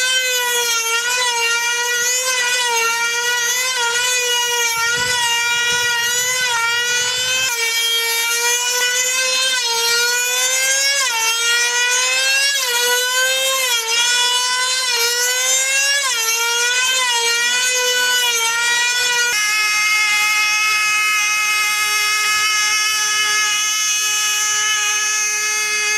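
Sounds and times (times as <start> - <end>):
model airplane engines whining: 0.0 - 25.9.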